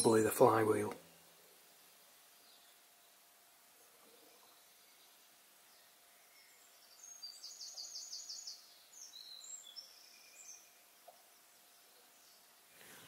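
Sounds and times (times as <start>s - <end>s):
faint bird song: 0.0s - 13.0s.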